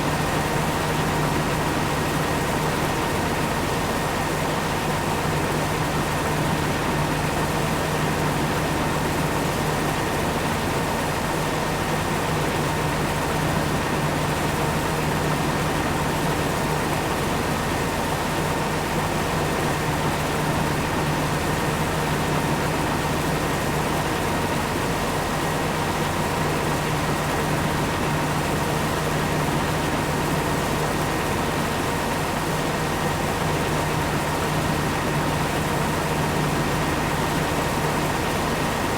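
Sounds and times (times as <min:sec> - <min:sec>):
farm machinery engine drone: 0:00.0 - 0:38.9.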